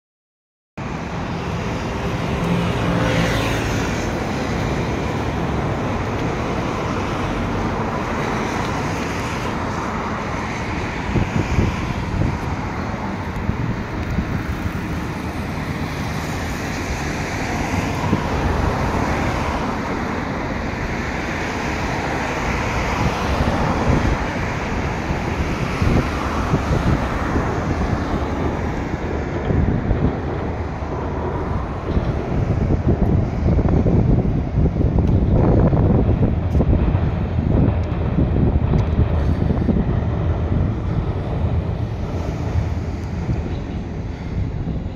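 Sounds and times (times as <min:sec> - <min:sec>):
road traffic hum: 0:00.8 - 0:44.9
vehicle engine: 0:00.8 - 0:44.9.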